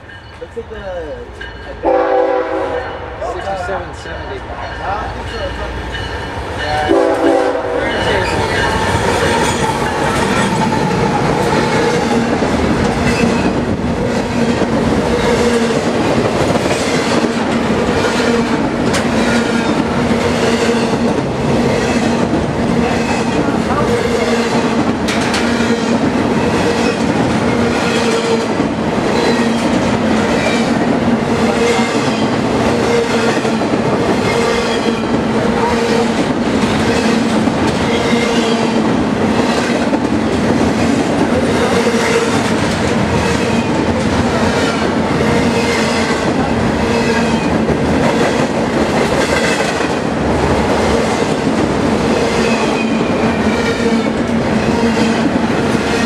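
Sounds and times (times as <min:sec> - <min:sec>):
freight train passing: 0:00.0 - 0:56.0
steel wheels on rail: 0:00.0 - 0:56.0
clickety-clack over rail joints: 0:07.9 - 0:56.0.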